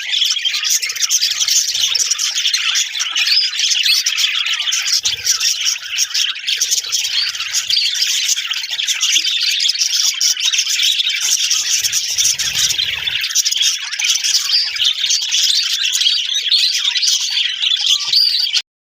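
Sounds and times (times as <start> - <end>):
flock of budgerigars chirping: 0.0 - 18.6.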